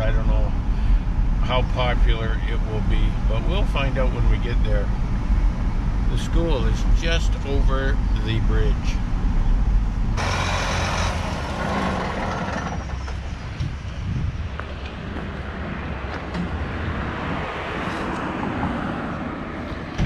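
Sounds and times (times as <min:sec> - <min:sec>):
road noise: 0:00.0 - 0:20.0
vehicle engine rumble: 0:00.0 - 0:20.0.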